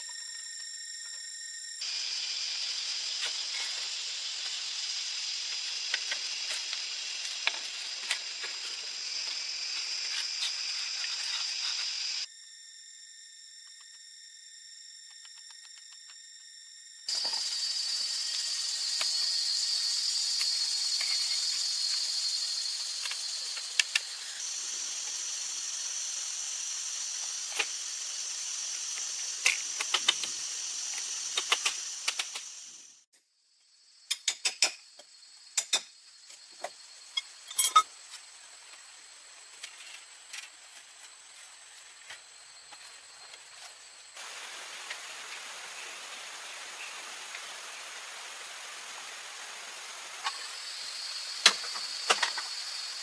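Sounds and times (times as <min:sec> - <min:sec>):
jungle insects shrilling: 0:00.0 - 0:13.5, 0:17.1 - 0:32.9, 0:33.8 - 0:53.0.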